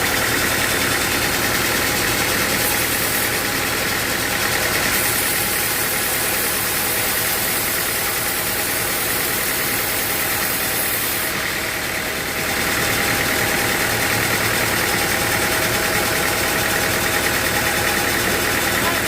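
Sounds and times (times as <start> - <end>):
sawmill machinery droning: 0.0 - 19.0.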